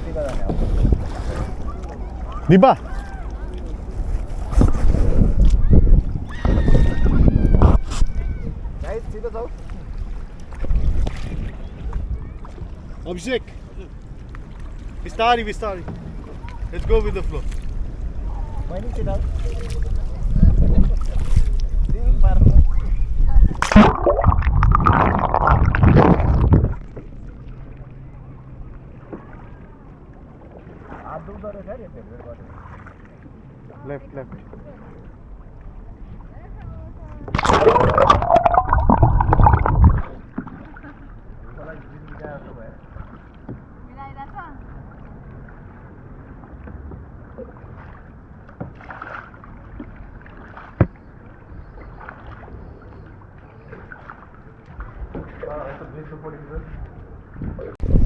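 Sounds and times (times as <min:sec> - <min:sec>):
water: 0:00.0 - 0:58.0
wind: 0:00.0 - 0:58.0.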